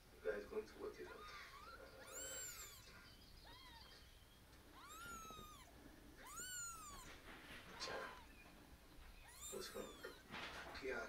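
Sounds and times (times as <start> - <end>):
kittens mewing: 1.0 - 10.4.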